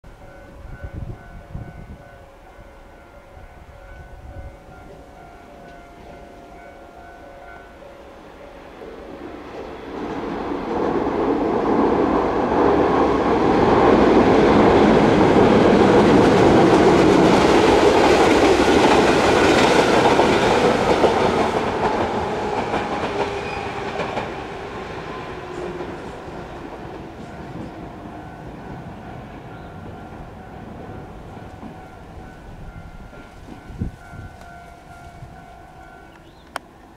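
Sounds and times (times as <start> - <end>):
electric train passing: 0.1 - 36.9.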